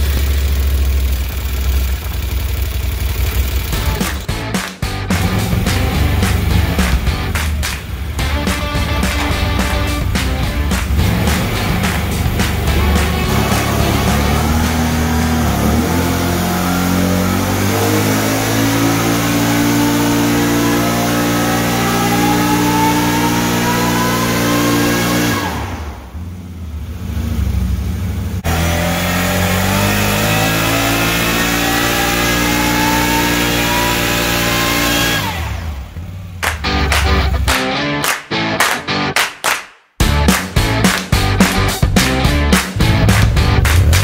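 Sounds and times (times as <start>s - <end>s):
engine whine climbing in pitch: 0.0s - 37.9s, 41.2s - 44.0s.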